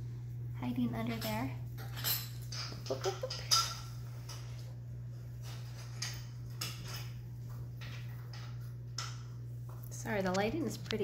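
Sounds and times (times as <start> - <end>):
steady low hum: 0.0 - 11.0
puppy claws on tile floor: 1.0 - 11.0.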